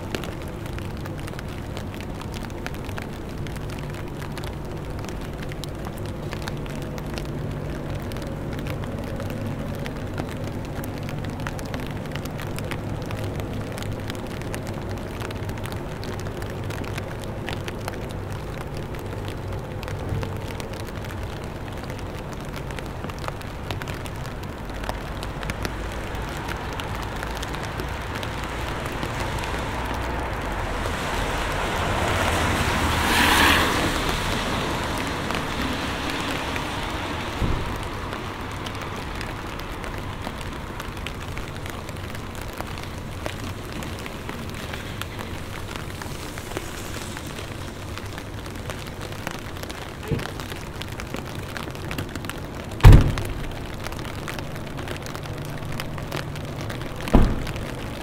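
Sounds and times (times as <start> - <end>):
rain pattering on street: 0.0 - 58.0.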